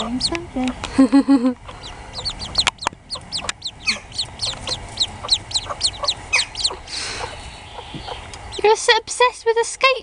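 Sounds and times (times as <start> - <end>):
ducklings peeping: 0.0 - 0.7, 1.4 - 8.9.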